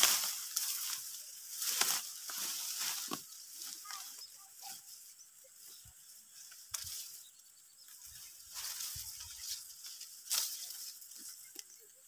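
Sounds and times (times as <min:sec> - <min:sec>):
dry rice stalks rustling: 0:00.0 - 0:12.0.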